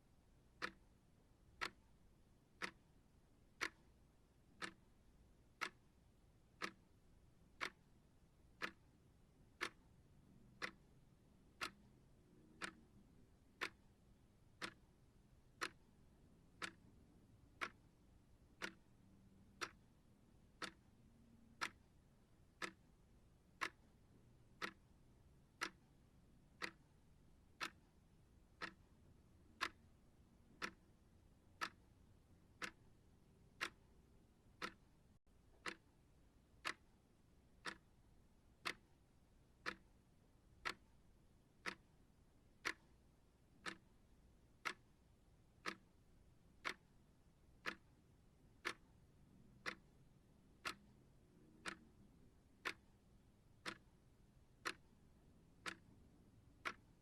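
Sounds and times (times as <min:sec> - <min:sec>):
clock ticking: 0:00.2 - 0:57.0.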